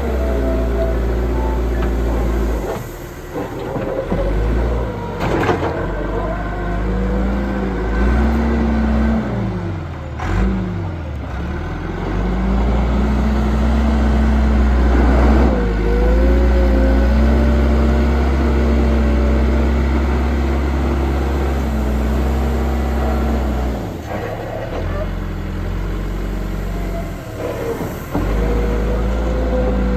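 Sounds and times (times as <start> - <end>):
backhoe diesel engine running: 0.0 - 29.9.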